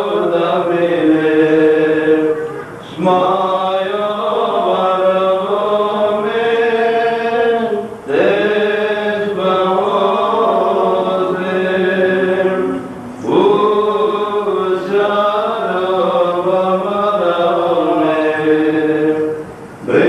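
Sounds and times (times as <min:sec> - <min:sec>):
liturgical chanting: 0:00.0 - 0:20.0.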